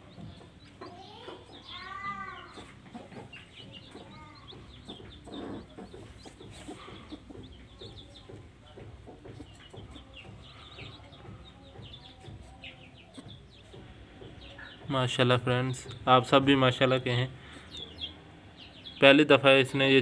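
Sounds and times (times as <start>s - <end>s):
chicks peeping: 0.0s - 20.0s
hen clucking: 0.0s - 20.0s.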